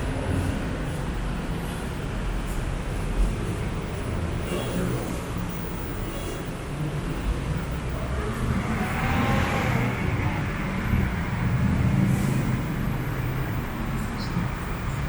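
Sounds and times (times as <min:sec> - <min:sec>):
vehicles passing: 0:00.0 - 0:15.0.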